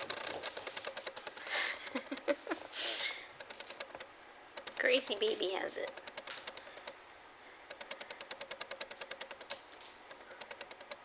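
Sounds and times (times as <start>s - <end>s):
rapid clicking on a vinyl floor: 0.0s - 2.4s, 3.0s - 7.0s, 7.7s - 11.0s.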